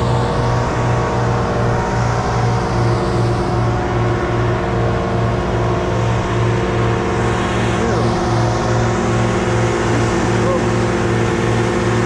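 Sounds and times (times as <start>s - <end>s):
engine running with low pulsing: 0.0s - 12.0s.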